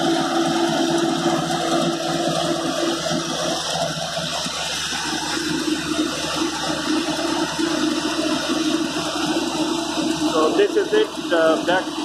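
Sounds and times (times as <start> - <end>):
drilling rig engine rushing: 0.0 - 12.0.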